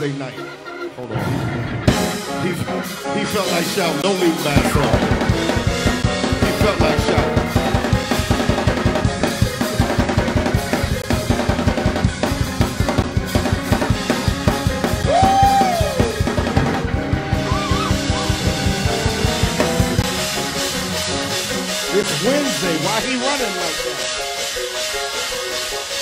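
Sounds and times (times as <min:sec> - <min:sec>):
sustained organ chords: 0:00.0 - 0:15.0, 0:16.1 - 0:26.0
bass: 0:01.0 - 0:23.9
fast drum kit: 0:01.8 - 0:26.0.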